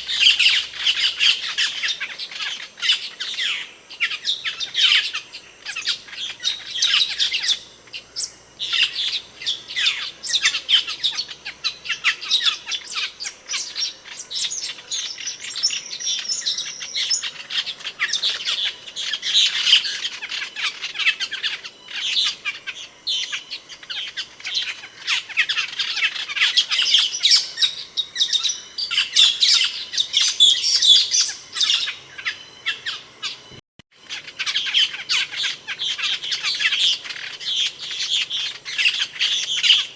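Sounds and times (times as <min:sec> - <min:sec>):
starling chirping: 0:00.0 - 0:39.9.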